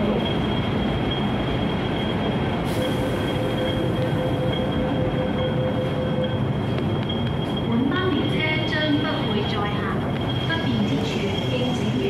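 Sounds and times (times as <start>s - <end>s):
high-pitched train tone: 0.0s - 12.0s
lower train tone: 0.0s - 12.0s
metro train rumble: 0.0s - 12.0s.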